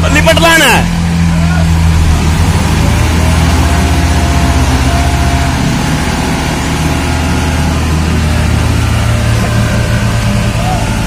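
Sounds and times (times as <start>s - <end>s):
tractor diesel engines running: 0.0s - 11.0s.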